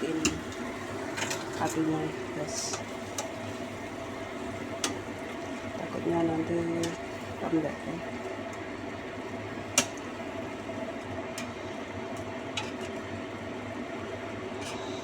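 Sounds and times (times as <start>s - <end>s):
sauce bubbling in a pan: 0.1s - 14.6s.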